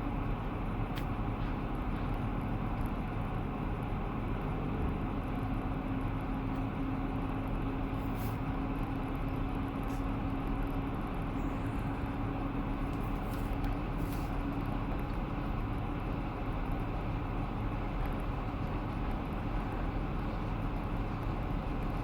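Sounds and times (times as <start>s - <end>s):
constant low hum: 0.0s - 22.0s.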